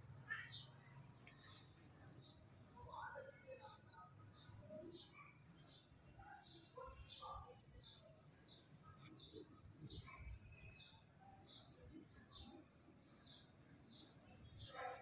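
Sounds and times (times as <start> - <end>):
small bird chirping: 0.3 - 12.6.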